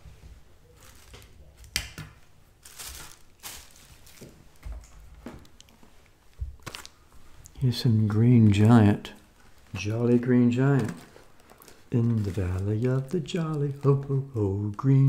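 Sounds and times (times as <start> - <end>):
packaging rustling: 0.7 - 1.8, 2.5 - 7.5, 8.5 - 15.0.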